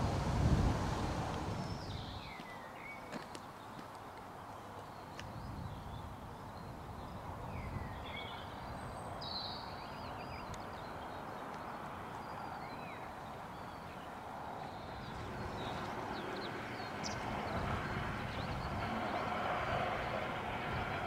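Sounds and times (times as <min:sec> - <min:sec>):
birds chirping: 0:01.6 - 0:20.4.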